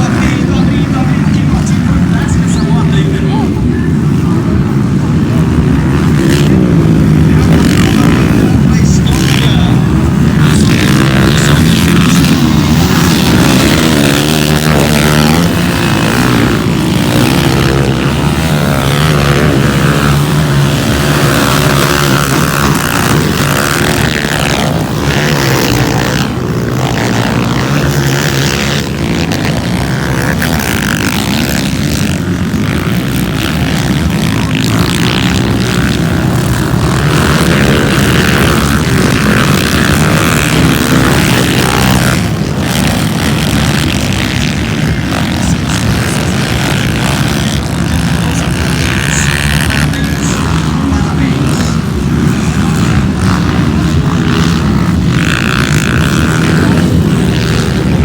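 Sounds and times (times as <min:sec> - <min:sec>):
motorcycle engines droning: 0:00.0 - 0:58.0.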